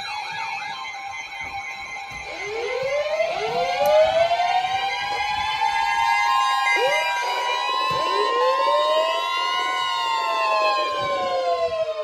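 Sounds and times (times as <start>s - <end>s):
sirens winding up: 0.0s - 12.0s.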